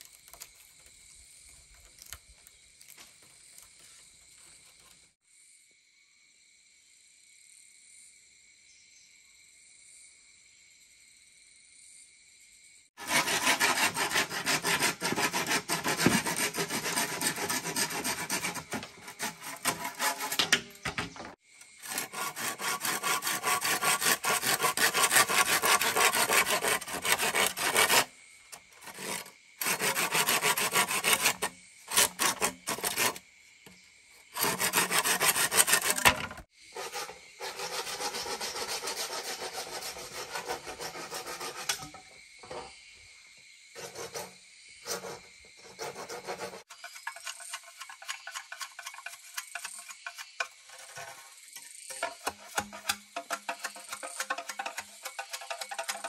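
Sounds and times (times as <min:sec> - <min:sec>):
hand tool rasping bamboo: 0:00.0 - 0:00.9, 0:01.5 - 0:05.0, 0:13.0 - 0:33.2, 0:34.2 - 0:42.7, 0:43.8 - 0:56.0.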